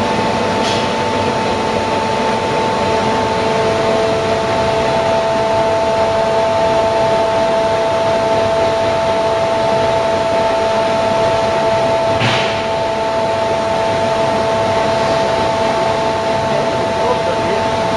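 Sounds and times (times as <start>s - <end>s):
machine whirring and whining: 0.0s - 17.9s.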